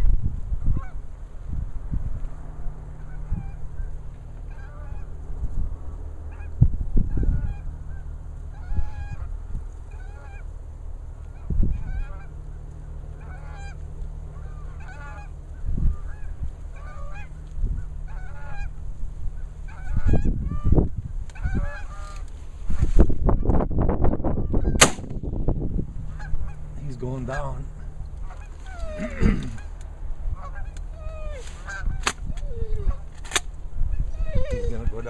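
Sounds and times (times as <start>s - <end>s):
low rumble: 0.0s - 35.0s
geese honking: 0.6s - 1.0s, 2.8s - 25.0s, 26.0s - 35.0s.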